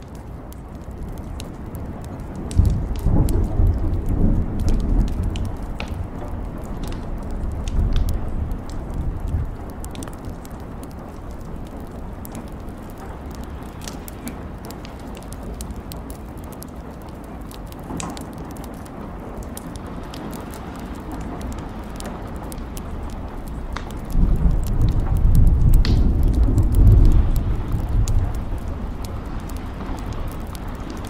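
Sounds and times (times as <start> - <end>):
rain rumble and hiss: 0.0 - 31.0
raindrops ticking: 0.0 - 31.0.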